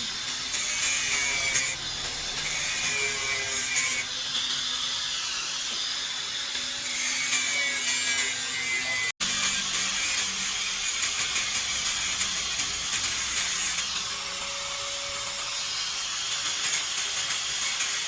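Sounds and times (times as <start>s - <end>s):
tool rasping and cutting: 0.0s - 18.0s.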